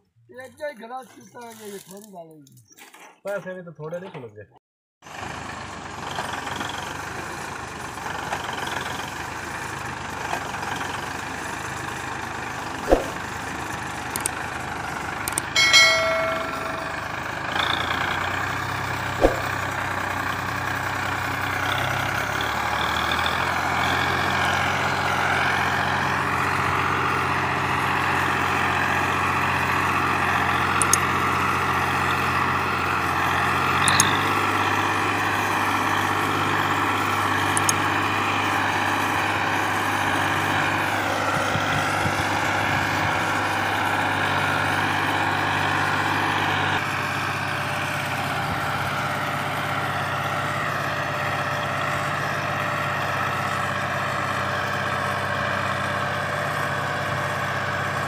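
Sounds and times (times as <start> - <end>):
tractor engine working hard: 5.1 - 58.0.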